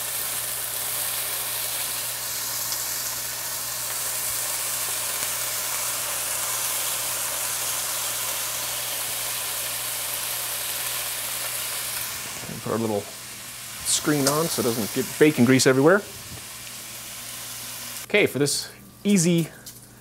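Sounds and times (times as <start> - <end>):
bacon sizzling in a frying pan: 0.0 - 18.1.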